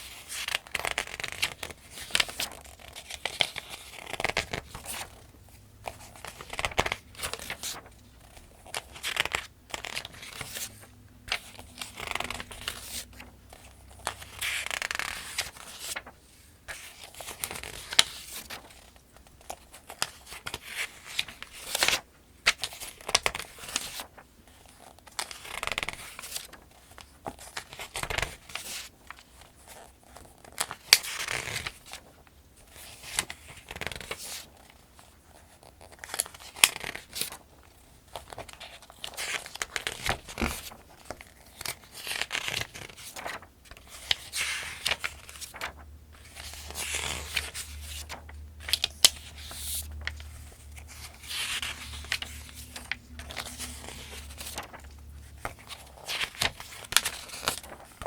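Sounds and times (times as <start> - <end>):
book pages turning: 0.0 - 58.0.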